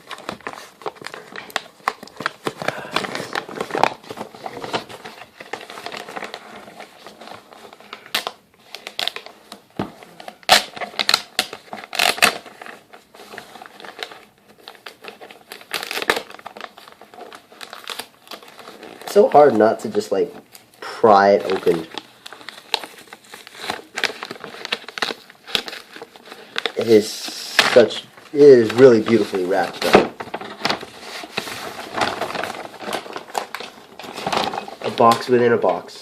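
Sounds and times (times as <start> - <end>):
wrapping paper crinkling: 0.0 - 36.0.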